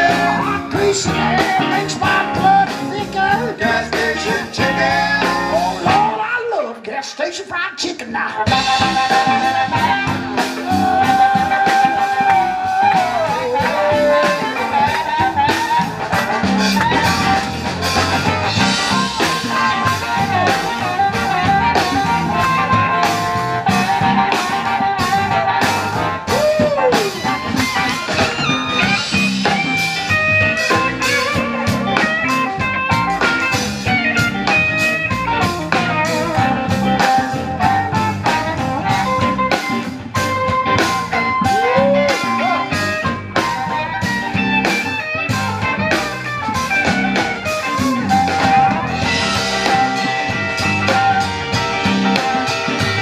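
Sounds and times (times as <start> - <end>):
electric guitar bending notes: 0.0 - 6.2, 8.4 - 53.0
drum kit: 0.0 - 6.4, 8.4 - 53.0.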